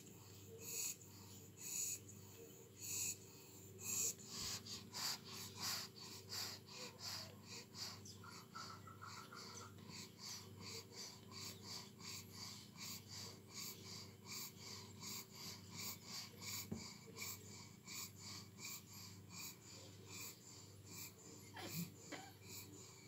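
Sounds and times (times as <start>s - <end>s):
dogs wheezy snuffling breathing: 0.0s - 23.0s.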